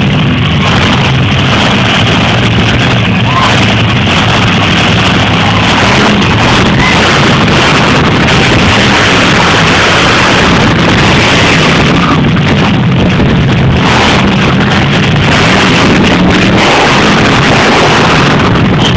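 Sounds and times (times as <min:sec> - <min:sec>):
monster truck engine running: 0:00.0 - 0:18.9.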